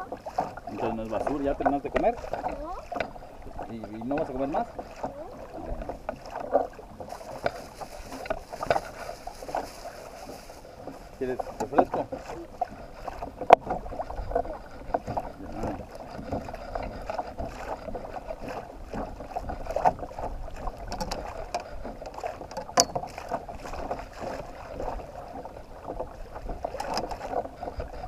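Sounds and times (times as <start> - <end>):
knocks against boat: 0.0 - 9.8, 10.8 - 25.0, 25.8 - 28.0
water lapping against kayak hull: 0.0 - 28.0.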